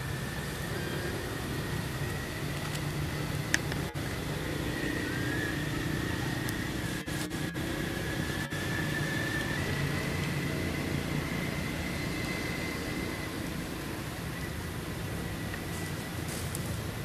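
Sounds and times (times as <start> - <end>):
faint high steady tone: 0.0 - 17.0
outdoor background hum and hiss: 0.0 - 17.0.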